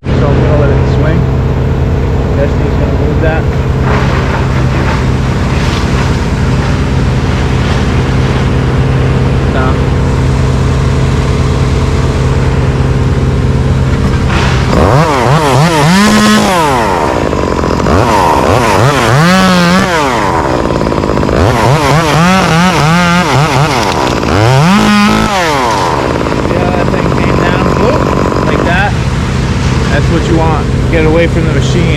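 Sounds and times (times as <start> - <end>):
chainsaw revving: 0.0 - 31.9
lift engine running: 0.0 - 31.9.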